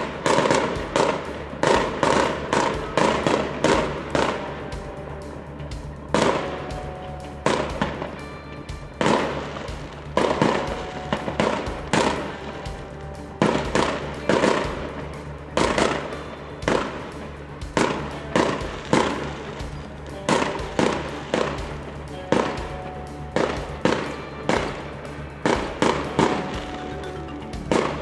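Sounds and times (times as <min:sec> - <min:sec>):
fireworks bangs: 0:00.0 - 0:04.8, 0:06.1 - 0:28.0
background music: 0:00.0 - 0:28.0.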